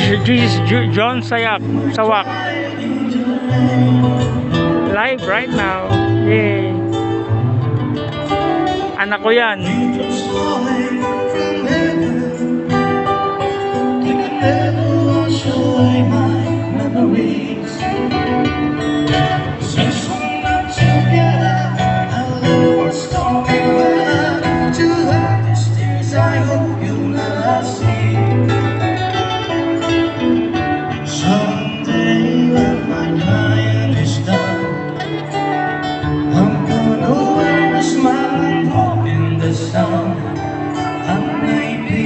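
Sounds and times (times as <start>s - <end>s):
person singing: 0.0s - 7.0s, 8.9s - 18.4s, 19.1s - 29.0s, 30.9s - 42.0s
band playing: 0.0s - 42.0s
guitar: 0.0s - 42.0s
held bass notes: 0.0s - 42.0s.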